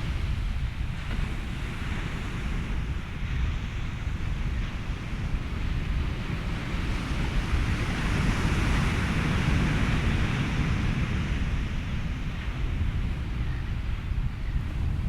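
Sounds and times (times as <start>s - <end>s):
ocean surf washing in: 0.0s - 15.0s
wind: 0.0s - 15.0s.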